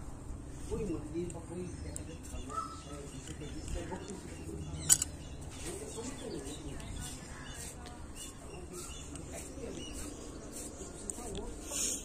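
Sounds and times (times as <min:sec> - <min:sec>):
birds chirping and calling: 0:00.5 - 0:12.0.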